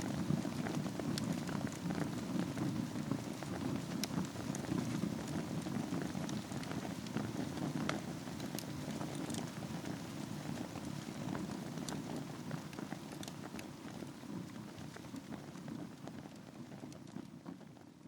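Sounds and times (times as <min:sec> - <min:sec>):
fire crackles and pops: 0:00.0 - 0:18.0
low rush of flame: 0:00.0 - 0:18.0.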